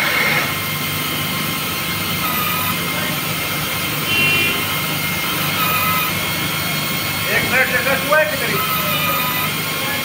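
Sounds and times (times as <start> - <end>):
air motor hissing: 0.0 - 10.0.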